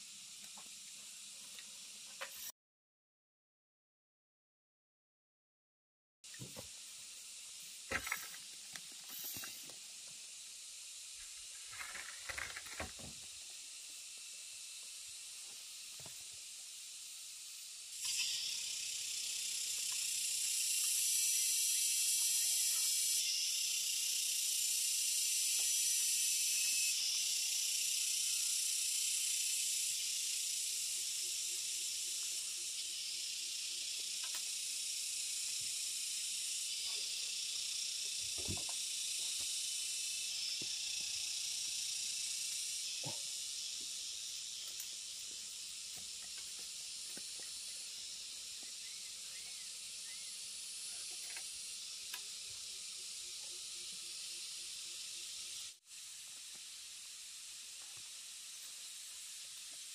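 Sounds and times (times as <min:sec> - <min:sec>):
high-pitched insect drone: 0:00.0 - 0:02.5, 0:06.3 - 0:59.9.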